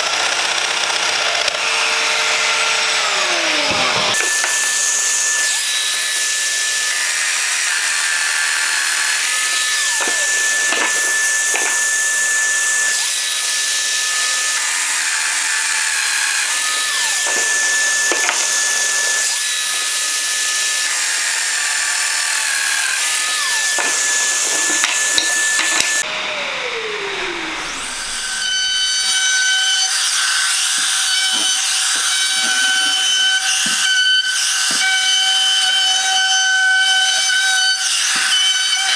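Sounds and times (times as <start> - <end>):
joiner whining while cutting wood: 0.0 - 26.0, 26.7 - 38.9
trim router routing wood: 0.0 - 38.9.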